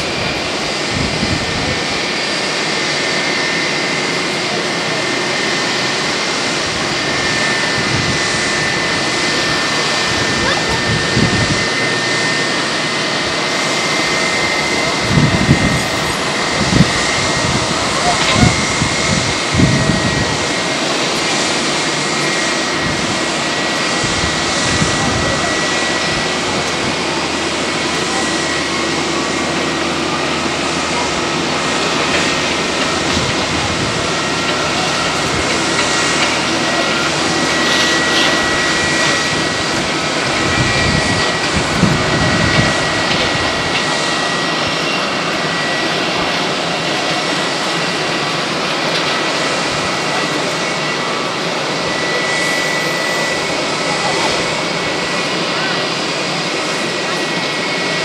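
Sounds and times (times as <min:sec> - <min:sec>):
high engine whine: 0:00.0 - 0:58.0
jet engines running: 0:00.0 - 0:58.0.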